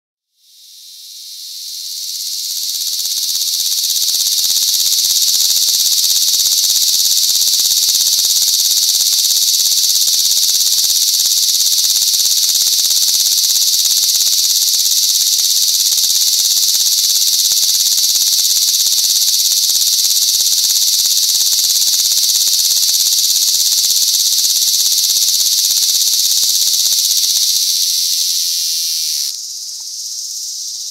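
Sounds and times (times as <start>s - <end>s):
cicada buzzing: 0.3s - 30.9s.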